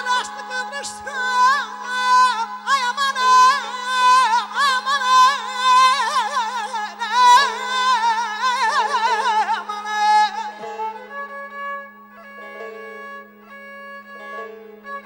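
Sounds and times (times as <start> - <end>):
bowed string notes: 0.0 - 15.0.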